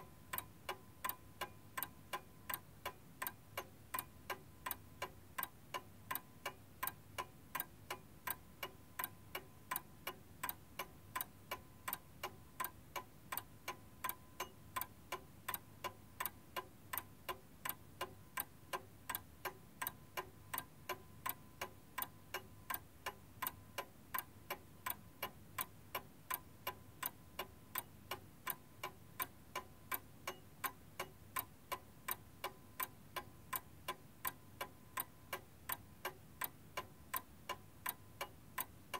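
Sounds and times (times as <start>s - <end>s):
steady clock-like ticking: 0.0s - 38.9s.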